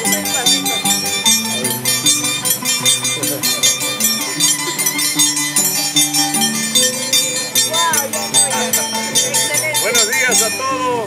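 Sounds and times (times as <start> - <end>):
bright metallic clinks: 0.0 - 10.8
violin and harp music: 0.0 - 11.0.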